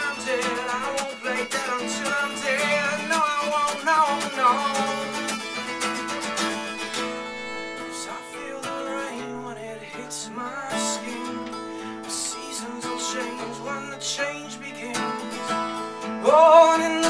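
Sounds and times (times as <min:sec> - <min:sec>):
acoustic guitar strumming: 0:00.0 - 0:17.0
person singing: 0:00.0 - 0:17.0.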